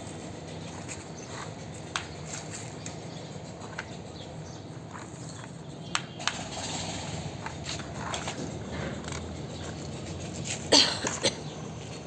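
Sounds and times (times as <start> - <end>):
steady background noise: 0.0 - 12.0
plastic toys clacking on concrete: 0.8 - 12.0.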